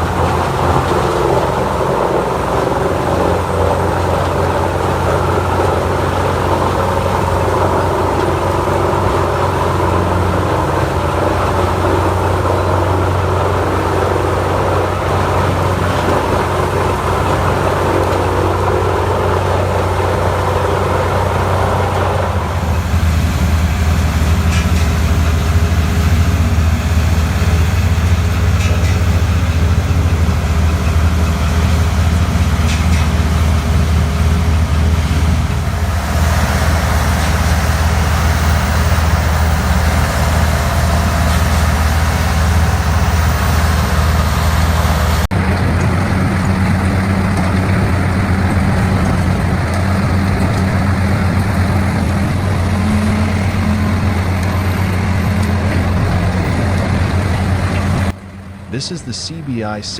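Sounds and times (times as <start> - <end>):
industrial wood grinder running: 0.0 - 58.1.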